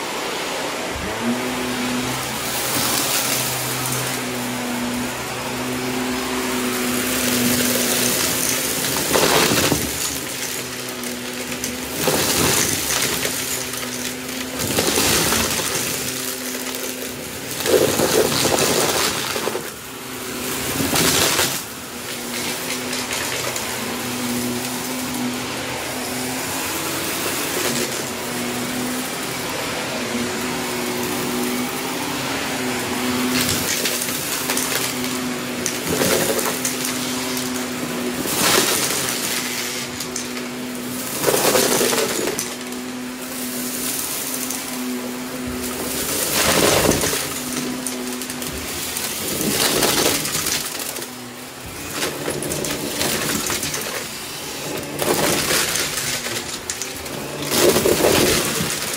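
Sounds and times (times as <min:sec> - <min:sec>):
vacuum cleaner running: 0:00.0 - 0:58.9
debris rattling in vacuum: 0:00.1 - 0:58.9.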